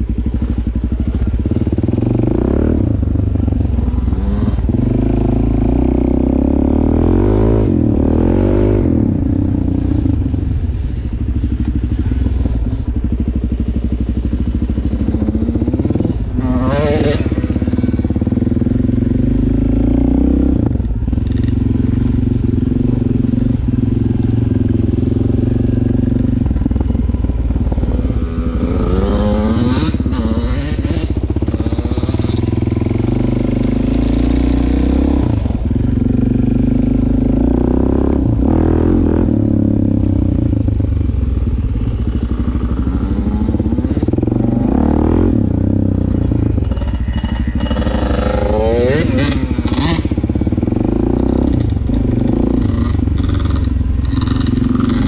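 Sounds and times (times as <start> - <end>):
dirt bike engine revving: 0.0 - 11.1, 14.4 - 55.0.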